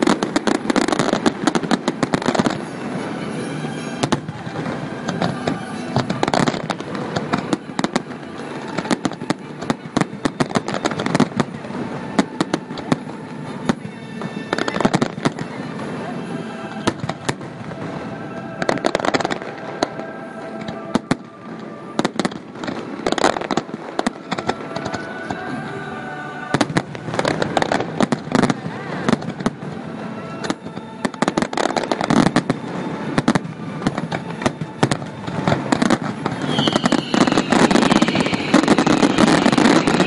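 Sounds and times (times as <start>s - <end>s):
fireworks cracking and banging: 0.0s - 40.0s
fireworks crackling hiss: 0.0s - 40.0s
music playing: 0.0s - 40.0s.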